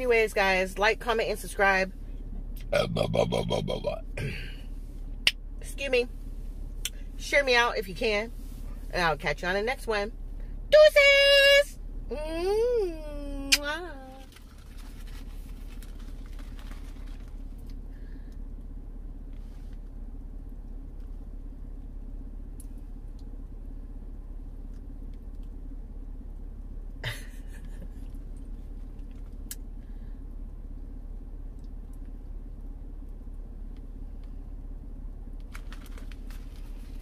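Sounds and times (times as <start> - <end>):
car cabin rumble: 0.0 - 37.0.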